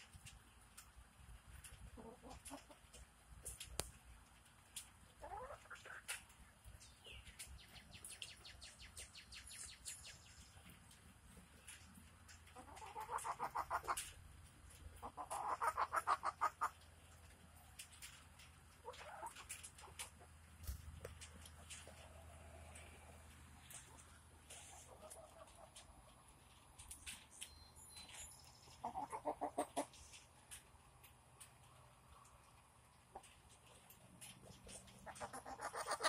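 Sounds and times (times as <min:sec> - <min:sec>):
beaks and claws ticking in soil: 0:00.0 - 0:36.0
hens clucking: 0:00.2 - 0:27.3, 0:28.6 - 0:36.0.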